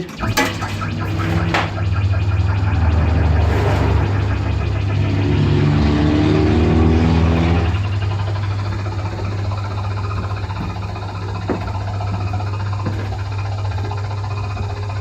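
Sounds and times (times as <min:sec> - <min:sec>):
electric hum of kiddie ride: 0:00.0 - 0:15.0
pitched whine rising: 0:00.0 - 0:15.0.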